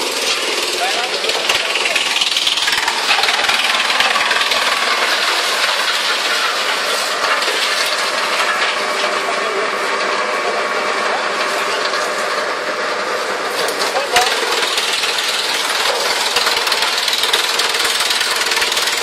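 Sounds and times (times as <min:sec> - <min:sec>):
wood chipper running: 0:00.0 - 0:19.0.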